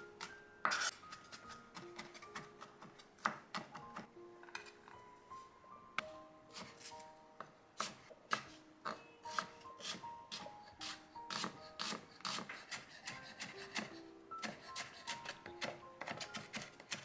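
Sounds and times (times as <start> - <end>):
light instrumental music: 0.0 - 17.0.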